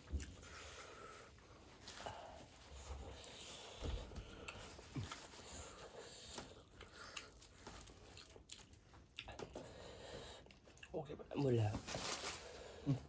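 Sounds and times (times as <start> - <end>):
faint chewing and biting: 0.0 - 11.0.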